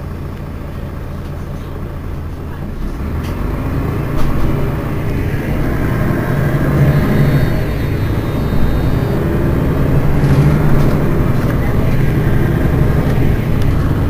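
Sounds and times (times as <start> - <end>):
bus engine idling and pulling away: 0.0 - 14.0.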